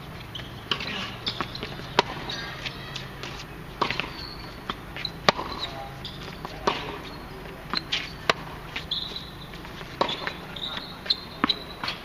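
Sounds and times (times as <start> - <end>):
rackets striking tennis ball: 0.0 - 12.0
ball bouncing: 0.2 - 12.0
short high squeaks: 0.3 - 6.2, 7.0 - 12.0.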